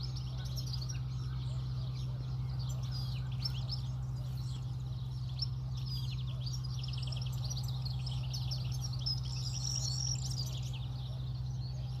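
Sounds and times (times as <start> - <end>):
birds twittering: 0.0 - 12.0
steady low hum: 0.0 - 12.0.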